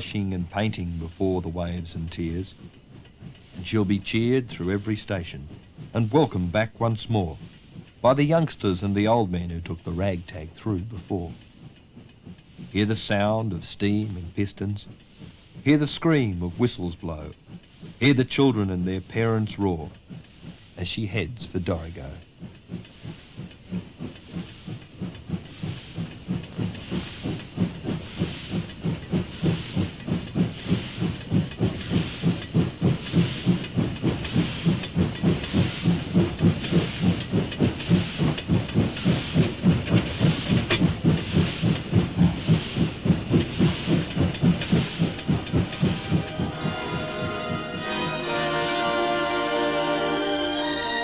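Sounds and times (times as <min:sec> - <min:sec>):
steam locomotive chuffing: 0:00.0 - 0:51.0.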